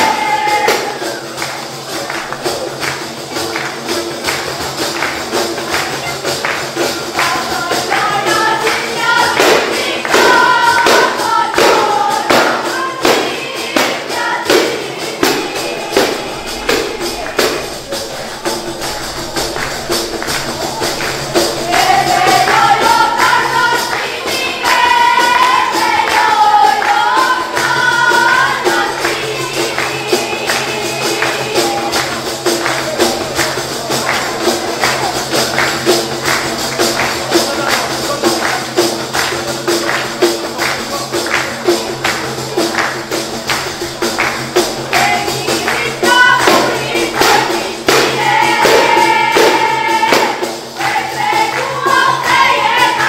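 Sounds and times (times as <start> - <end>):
jingled frame drums beaten: 0.0 - 53.0
voices singing folk melody: 0.0 - 53.0.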